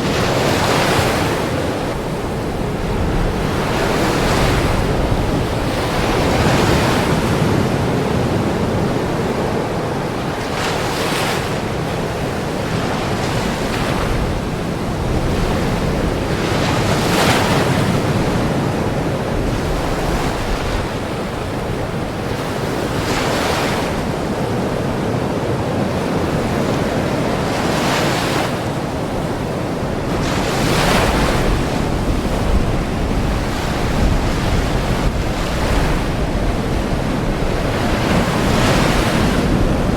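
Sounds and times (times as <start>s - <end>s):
ocean waves breaking: 0.0s - 39.9s
wind noise on microphone: 0.0s - 39.9s.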